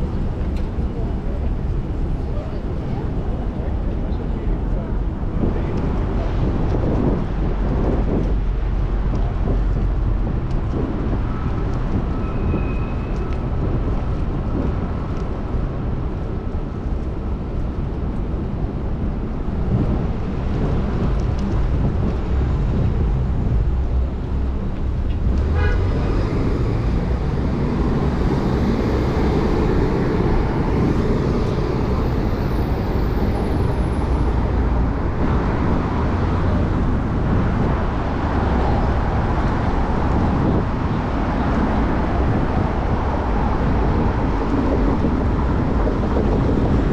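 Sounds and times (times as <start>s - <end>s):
city street traffic: 0.0s - 46.9s
wind rumble on microphone: 0.0s - 46.9s.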